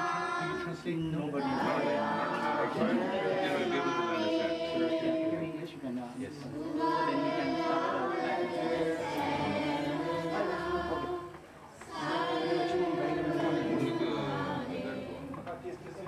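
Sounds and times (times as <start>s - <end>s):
group singing a hymn: 0.0s - 15.6s.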